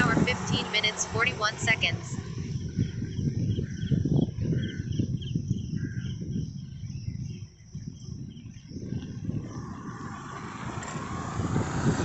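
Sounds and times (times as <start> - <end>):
bicycle road rumble: 0.0 - 12.0
wind buffeting microphone: 0.0 - 12.0.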